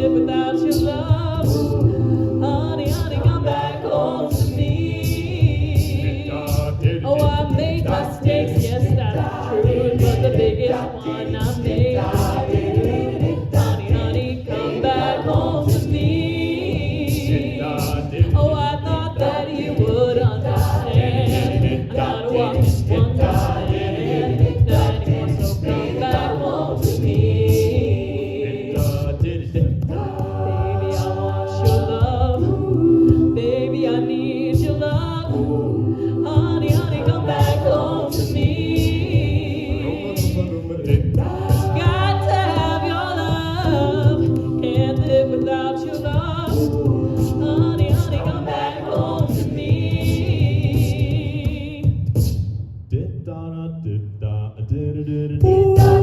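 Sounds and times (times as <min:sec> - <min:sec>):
vocal group singing in harmony: 0:00.0 - 0:56.0.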